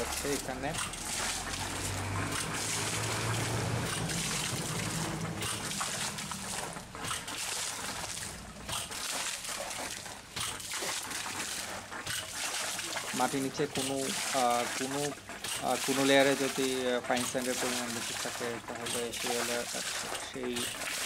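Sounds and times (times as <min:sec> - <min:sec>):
water and slurry splashing: 0:00.0 - 0:21.0.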